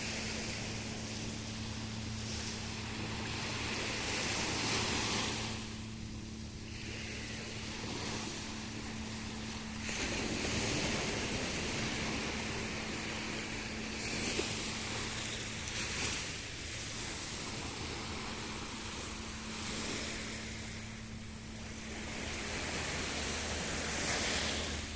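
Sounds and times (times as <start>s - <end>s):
low motor hum: 0.0s - 24.9s
sea water washing: 0.0s - 24.9s
wind: 0.0s - 24.9s.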